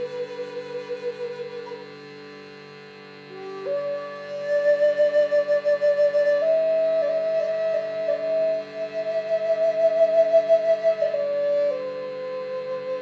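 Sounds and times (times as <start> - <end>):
flute playing long notes: 0.0 - 2.4, 3.3 - 13.0.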